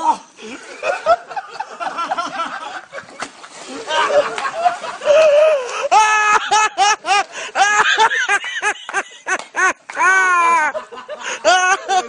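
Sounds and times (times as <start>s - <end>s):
person laughing: 0.0s - 12.0s.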